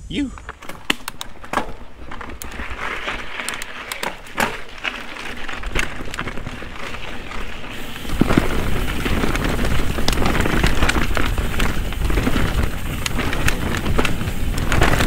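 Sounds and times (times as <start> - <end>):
bike clicks and rattles: 0.3 - 15.0
bike tyres crunching on leaves: 0.3 - 15.0.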